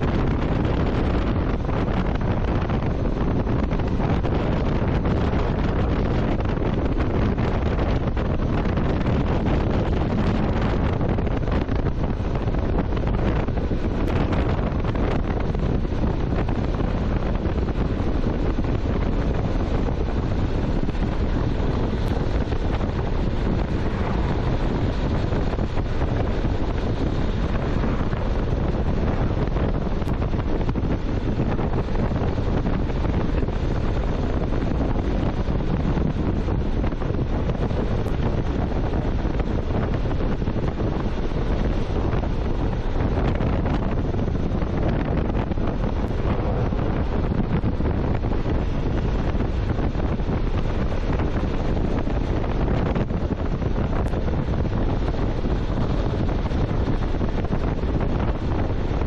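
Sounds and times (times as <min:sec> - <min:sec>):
wind roaring over microphone: 0:00.0 - 0:59.0.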